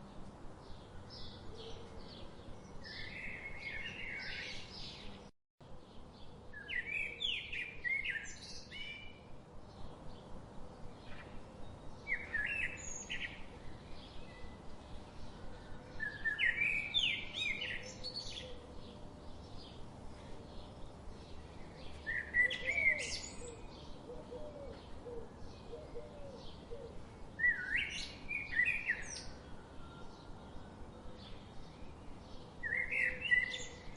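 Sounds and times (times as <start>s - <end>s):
songbirds chirping: 0.0s - 33.9s
steady background hiss: 0.0s - 33.9s.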